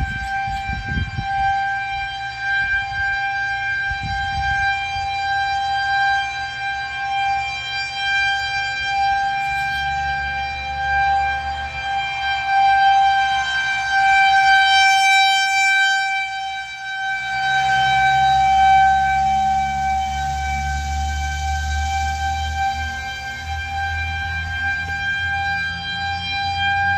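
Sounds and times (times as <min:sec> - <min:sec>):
warning siren steady tone: 0:00.0 - 0:26.9.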